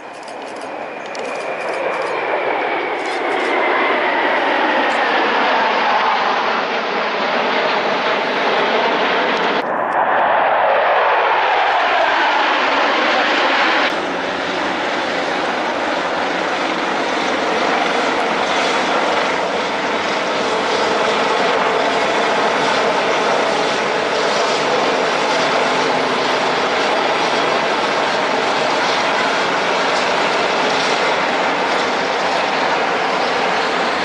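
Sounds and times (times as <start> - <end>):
helicopters flying over: 0.0 - 34.0.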